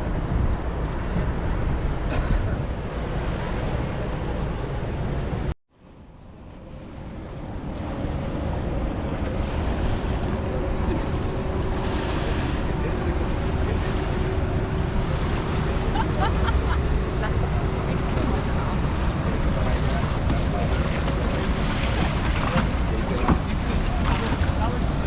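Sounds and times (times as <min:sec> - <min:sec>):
wind buffeting microphone: 0:00.0 - 0:05.5, 0:06.3 - 0:25.0
water rushing: 0:00.0 - 0:25.0.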